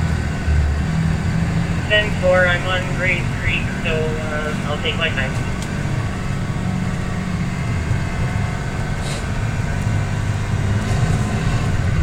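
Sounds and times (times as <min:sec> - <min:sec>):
diesel bus engine droning: 0:00.0 - 0:12.0.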